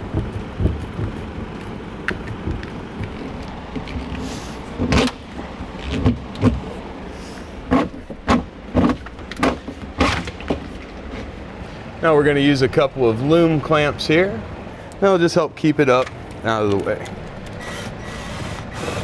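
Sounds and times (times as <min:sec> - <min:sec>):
room noise: 0:00.0 - 0:14.4, 0:16.8 - 0:19.0.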